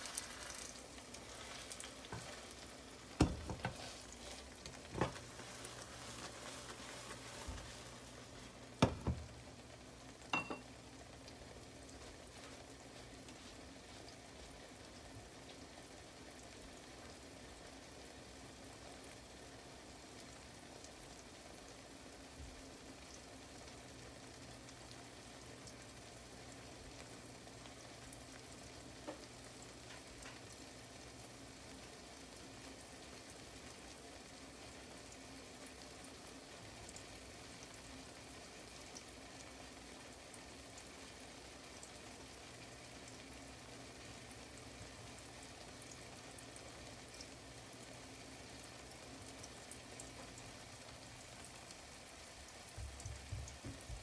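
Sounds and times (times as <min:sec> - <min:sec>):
pancake sizzling in a pan: 0:00.0 - 0:54.0.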